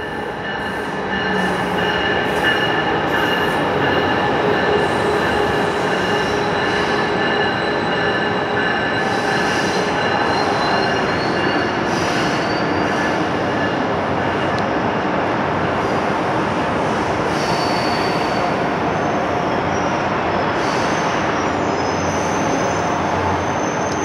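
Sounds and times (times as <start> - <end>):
passing train rumble: 0.0 - 24.0.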